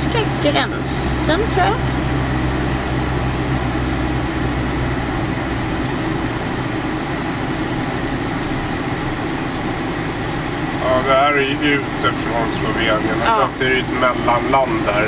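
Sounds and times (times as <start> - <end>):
low engine hum: 0.0 - 15.0
road and cab rumble: 0.0 - 15.0.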